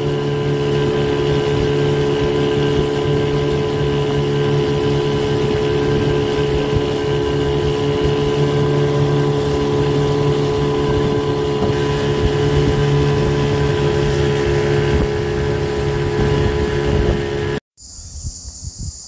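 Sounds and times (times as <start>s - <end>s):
outboard motor running: 0.0s - 17.6s.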